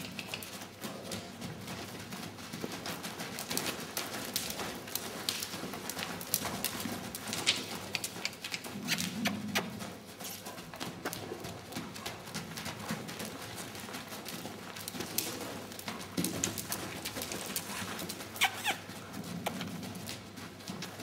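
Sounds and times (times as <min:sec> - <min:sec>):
horse hooves trotting: 0:00.0 - 0:21.0.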